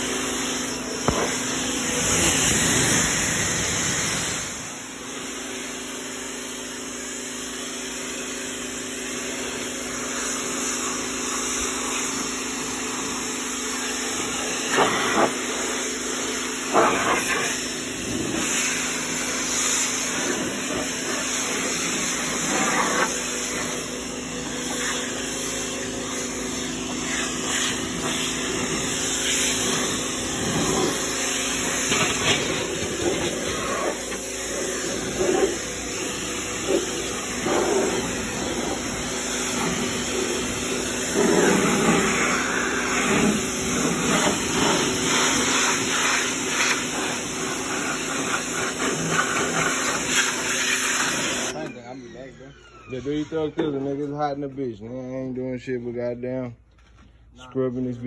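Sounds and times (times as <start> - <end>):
water jet hissing: 0.0 - 6.0, 8.7 - 51.6
pump humming: 0.0 - 53.8.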